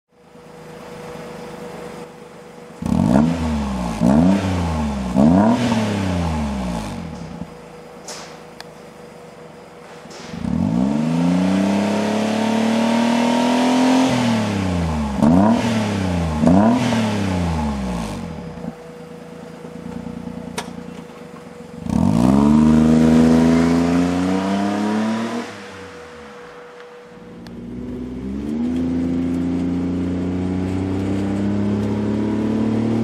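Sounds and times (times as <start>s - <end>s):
car engine revving: 2.8s - 7.8s, 10.0s - 33.0s.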